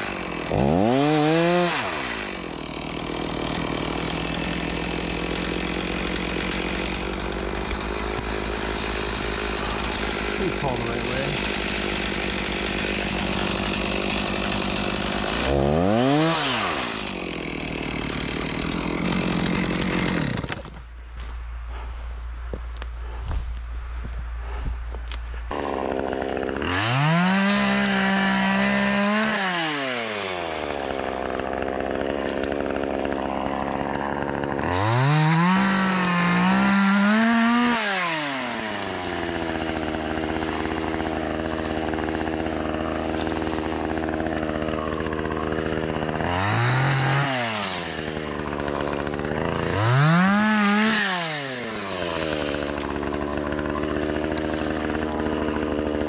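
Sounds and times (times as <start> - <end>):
chainsaw idling and revving: 0.0 - 23.2, 24.4 - 56.0.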